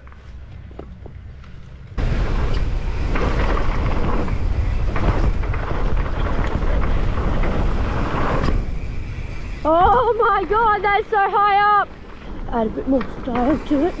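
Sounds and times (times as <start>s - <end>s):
bike tyres rumbling over dirt: 0.0s - 14.0s
wind buffeting microphone: 1.9s - 14.0s.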